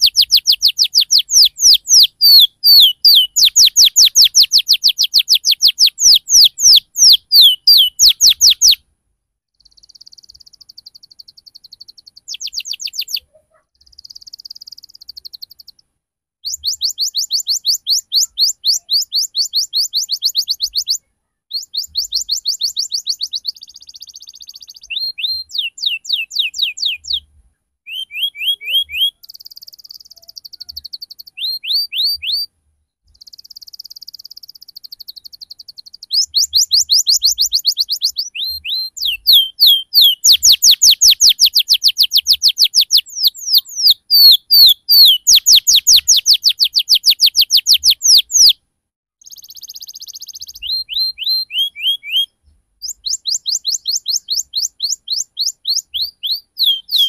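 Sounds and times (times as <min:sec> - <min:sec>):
canary singing: 0:00.0 - 0:08.8, 0:09.6 - 0:15.8, 0:16.4 - 0:27.3, 0:27.9 - 0:48.6, 0:49.2 - 0:57.0.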